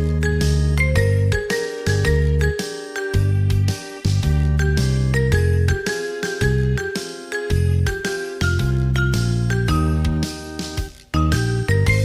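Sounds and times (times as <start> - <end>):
bright tinkling melody: 0.0 - 10.4, 11.2 - 12.0
background music with steady beat: 0.0 - 12.0
bass notes: 0.0 - 12.0.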